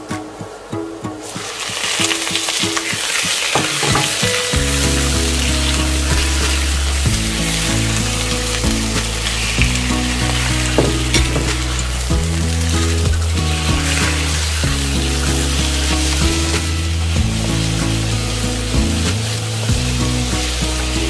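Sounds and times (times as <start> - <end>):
food sizzling in hot oil: 1.3 - 21.0.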